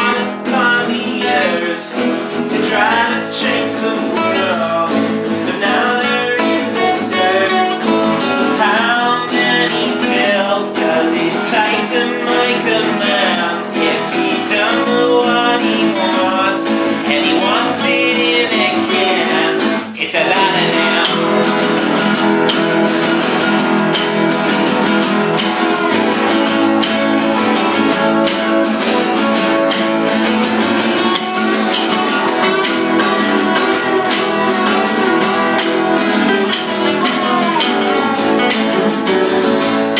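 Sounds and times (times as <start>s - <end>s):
hand percussion ticking: 0.0s - 39.9s
person singing: 0.0s - 39.9s
strummed acoustic guitar: 0.0s - 39.9s.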